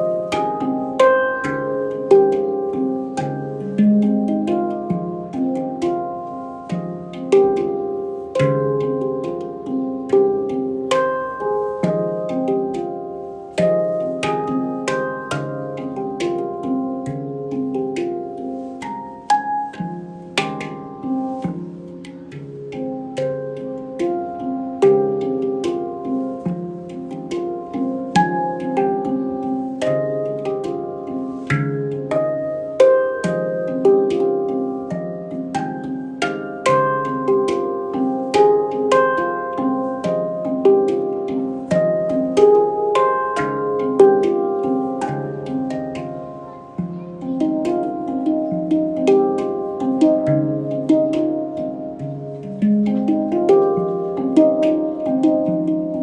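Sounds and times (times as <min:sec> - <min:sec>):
handpan melody: 0:00.0 - 0:56.0.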